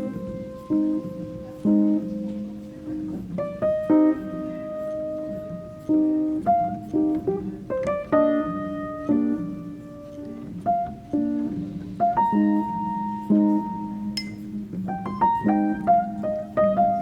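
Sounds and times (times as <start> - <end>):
gentle instrumental music: 0.0 - 17.0.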